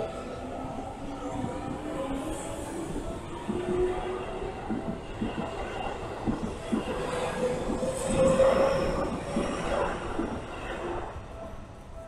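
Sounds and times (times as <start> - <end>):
passing train rumble: 0.0 - 12.0.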